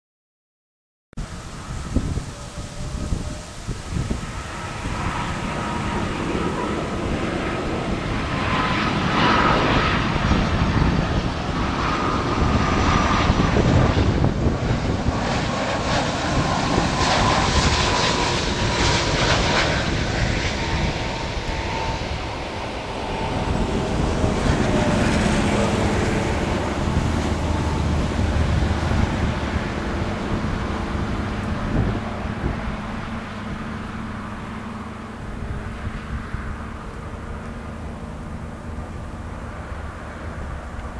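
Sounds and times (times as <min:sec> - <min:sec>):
jet airliner flying past: 0:01.2 - 0:40.9.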